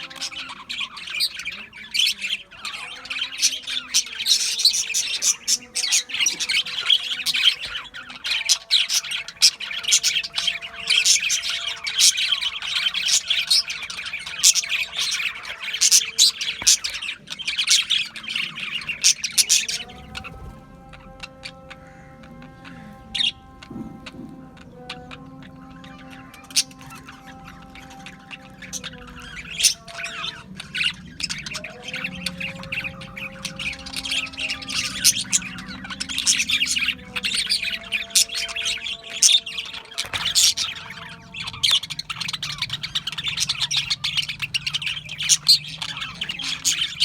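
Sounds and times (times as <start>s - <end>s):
budgerigars chattering: 0.0s - 47.0s
faint background music: 0.0s - 47.0s.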